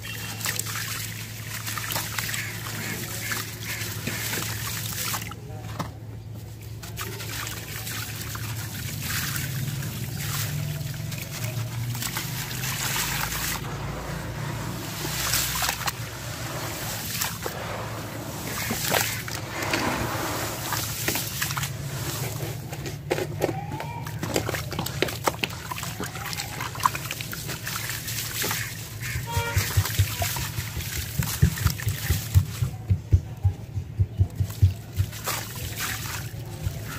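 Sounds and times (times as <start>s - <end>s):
hands sloshing through muddy water: 0.0s - 5.4s, 6.4s - 22.7s, 23.6s - 32.8s, 34.4s - 36.9s
wet sand splashing and trickling: 0.0s - 5.6s, 6.6s - 22.7s, 24.5s - 32.6s, 34.8s - 36.9s.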